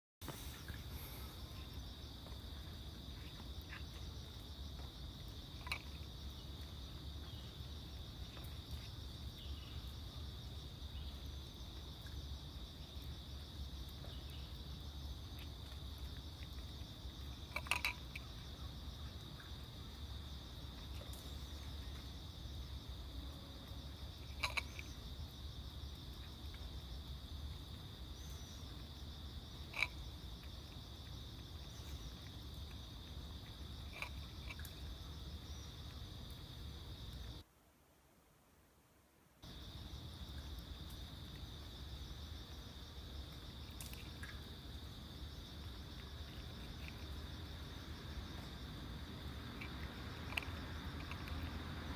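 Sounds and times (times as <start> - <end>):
crickets chirring: 0.2 - 37.5, 39.4 - 51.9.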